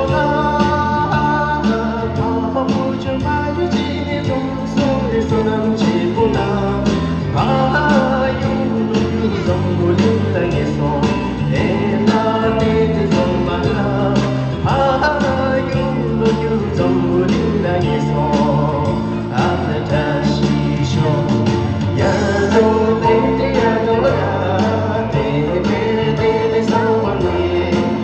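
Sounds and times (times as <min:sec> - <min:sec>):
instrumental backing with beat: 0:00.0 - 0:28.0
person singing: 0:00.0 - 0:28.0.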